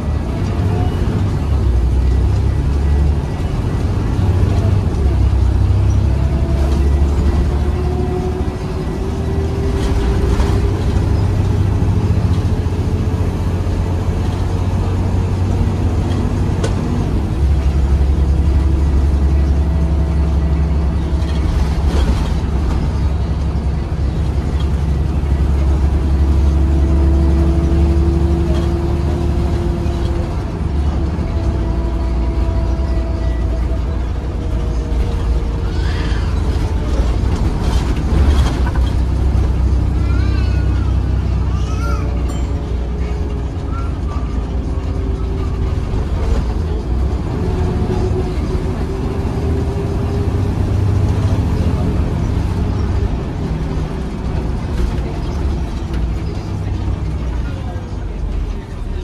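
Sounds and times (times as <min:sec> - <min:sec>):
bus diesel engine droning: 0:00.0 - 0:59.0.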